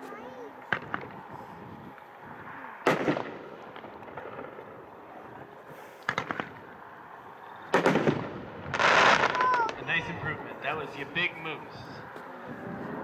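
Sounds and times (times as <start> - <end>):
fireworks crackling: 0.0 - 11.9
fireworks bangs: 0.5 - 12.1.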